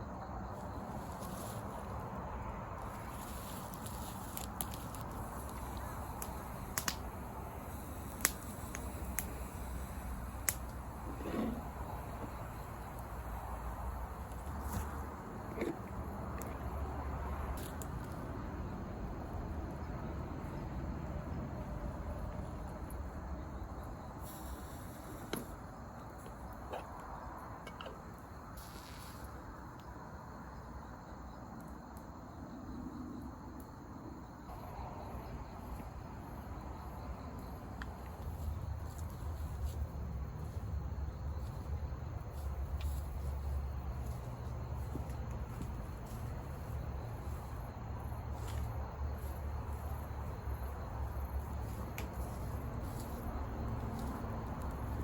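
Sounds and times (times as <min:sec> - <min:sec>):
campfire burning: 0:00.0 - 0:55.0
insects chirping: 0:00.0 - 0:55.0.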